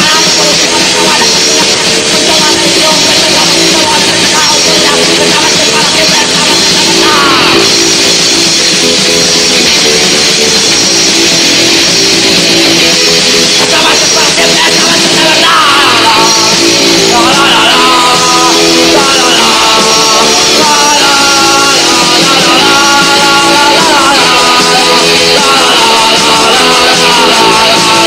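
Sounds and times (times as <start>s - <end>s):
punk rock music with electric guitars: 0.0s - 28.0s.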